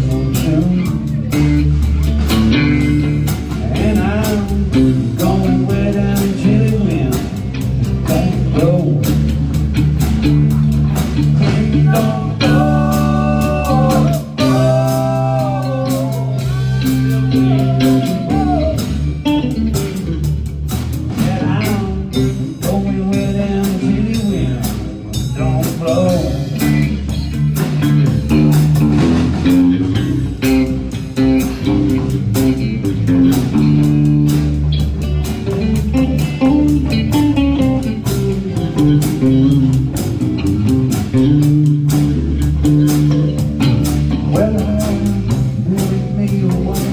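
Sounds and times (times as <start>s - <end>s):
bass guitar: 0.0s - 46.9s
electric guitar bending notes: 0.0s - 46.9s.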